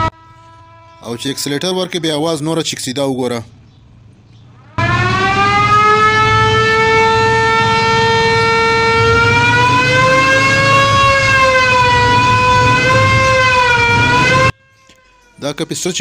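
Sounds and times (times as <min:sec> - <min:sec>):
electronic siren horn wailing: 0:00.0 - 0:02.4, 0:04.6 - 0:15.6.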